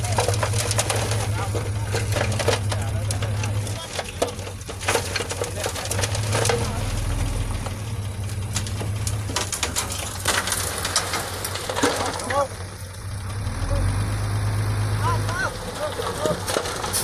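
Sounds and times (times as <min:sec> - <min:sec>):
sharp crunches and clanks: 0:00.0 - 0:14.0, 0:15.0 - 0:17.0
bulldozer engine running: 0:00.0 - 0:17.0.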